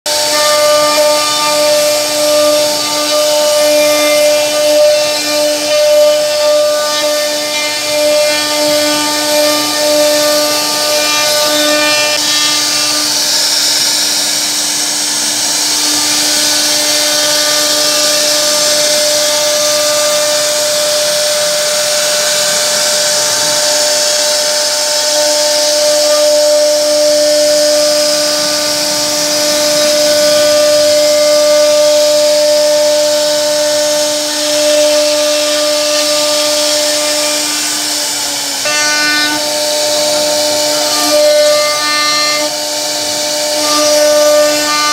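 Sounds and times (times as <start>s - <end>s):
cnc router spindle whine: 0.1s - 44.9s
router bit cutting wood hiss: 0.1s - 44.9s.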